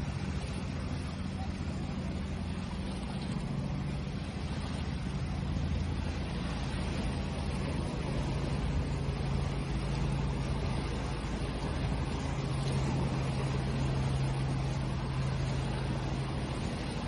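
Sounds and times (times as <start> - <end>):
low steady hum: 0.0 - 17.0
ocean waves washing: 0.0 - 17.0.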